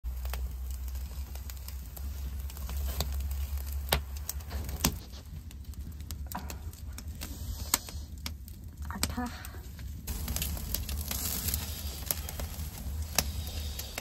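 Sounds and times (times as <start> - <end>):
wood fire crackling and popping: 0.0 - 14.0
low rumble: 0.1 - 14.0.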